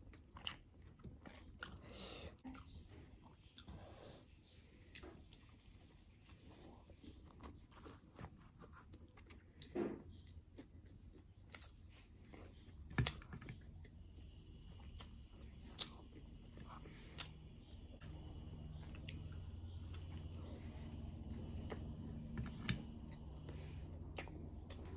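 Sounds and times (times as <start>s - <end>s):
biting and chewing pastry: 0.0s - 3.8s, 4.8s - 24.9s
low steady hum: 0.0s - 24.9s.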